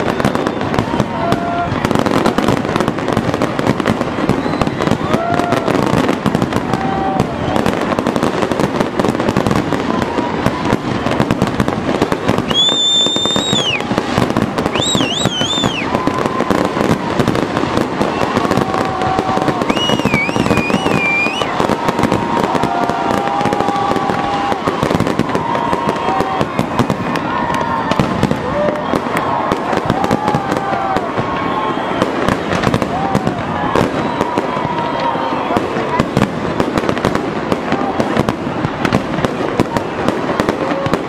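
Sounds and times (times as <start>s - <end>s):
fireworks crackling and popping: 0.0s - 41.0s
high firework whistle: 0.0s - 41.0s.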